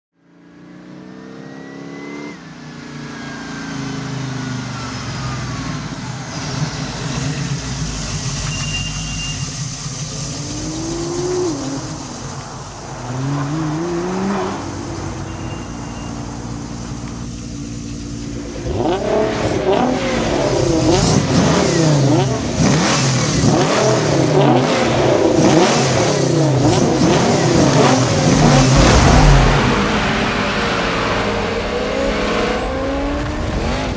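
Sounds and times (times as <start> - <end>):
car engines revving: 0.4 - 33.9.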